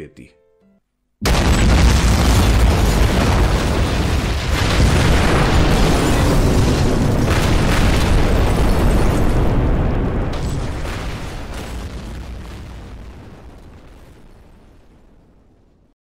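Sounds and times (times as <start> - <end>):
scattered crackles: 1.2 - 15.8
explosion rumble: 1.2 - 15.9.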